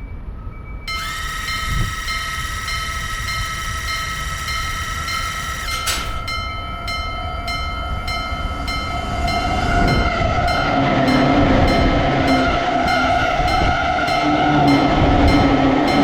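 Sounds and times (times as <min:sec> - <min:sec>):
train approaching: 0:00.1 - 0:16.0
low steady tone: 0:00.5 - 0:16.0
railroad crossing bell ringing: 0:00.9 - 0:16.0.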